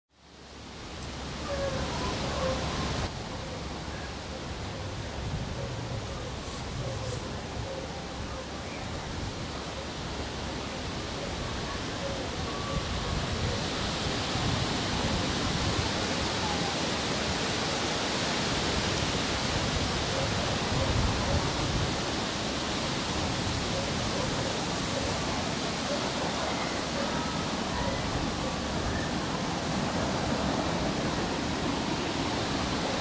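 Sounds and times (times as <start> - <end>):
wind in trees: 0.1 - 33.0
wind buffeting microphone: 4.6 - 33.0.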